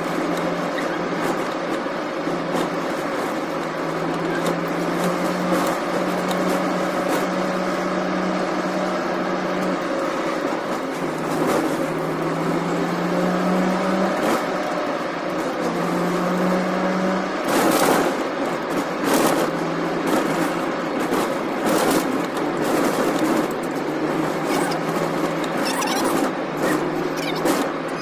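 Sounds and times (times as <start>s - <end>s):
car engine from inside cabin: 0.0s - 28.0s
road noise: 0.0s - 28.0s.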